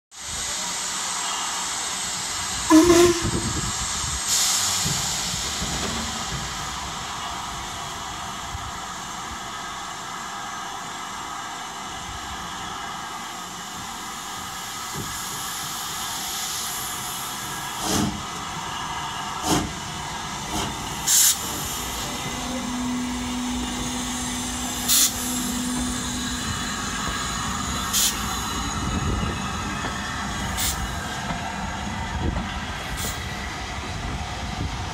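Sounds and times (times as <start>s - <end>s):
sharp steam blasts: 0.2s - 34.9s
steam locomotive hissing: 0.2s - 34.9s.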